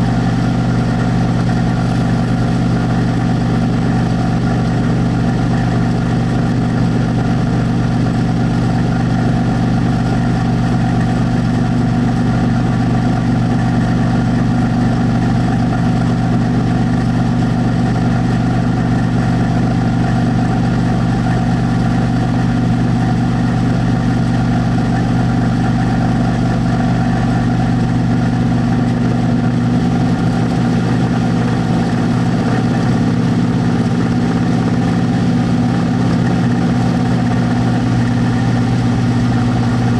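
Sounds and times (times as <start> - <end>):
duct fan humming: 0.0 - 39.9.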